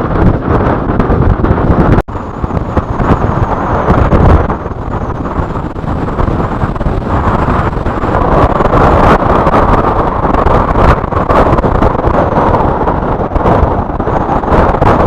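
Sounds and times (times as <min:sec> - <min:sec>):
wind gusts buffeting microphone: 0:00.0 - 0:15.0.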